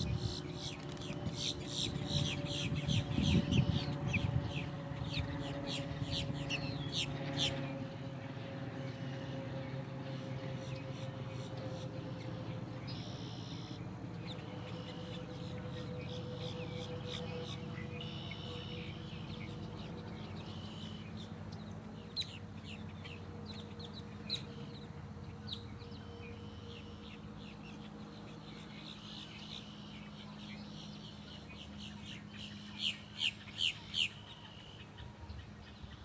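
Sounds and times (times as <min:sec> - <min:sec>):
birds chirping: 0:00.0 - 0:36.0
steady low hum: 0:00.0 - 0:36.0.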